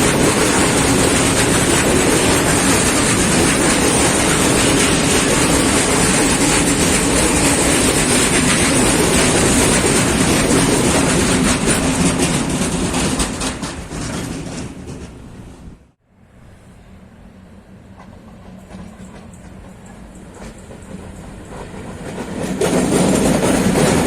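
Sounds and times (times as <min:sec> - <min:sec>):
train wheels clicking over rails: 0:00.0 - 0:16.0, 0:17.8 - 0:24.0.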